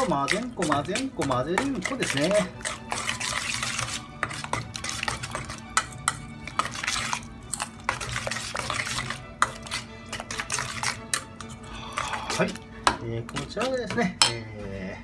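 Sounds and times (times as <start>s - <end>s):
spoon clinking on metal bowl: 0.0s - 11.6s, 12.3s - 14.4s
spoon stirring thick mash: 0.0s - 14.5s.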